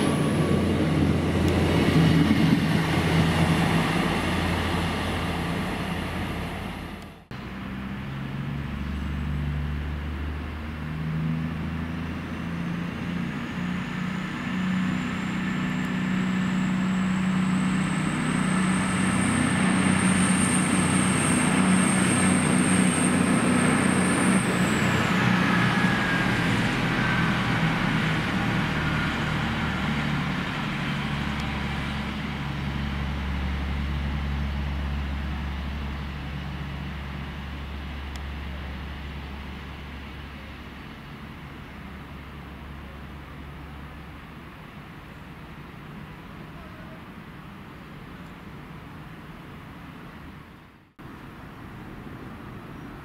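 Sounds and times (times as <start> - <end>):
diesel train engines whining: 0.0 - 53.0.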